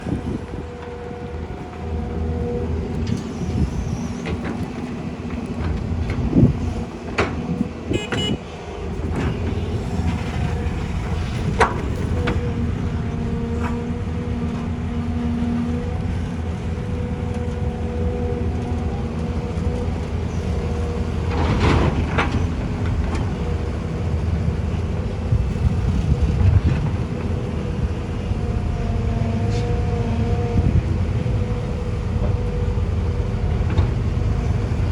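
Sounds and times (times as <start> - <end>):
heavy machinery engines humming: 0.0 - 34.9.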